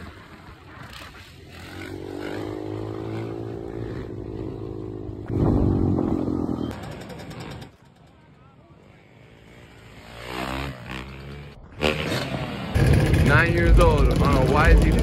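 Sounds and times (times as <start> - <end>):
dirt bike engine revving: 0.6 - 7.7, 9.4 - 15.0.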